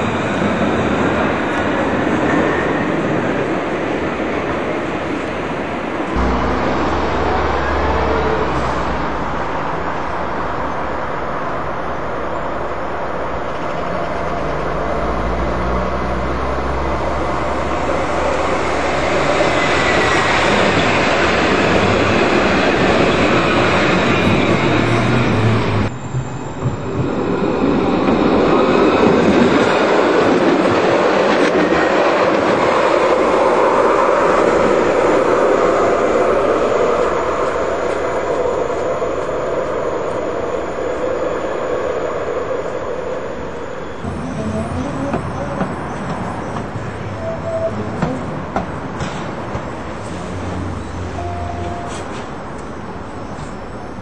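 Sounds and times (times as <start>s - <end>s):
trams passing on track: 0.0s - 54.0s.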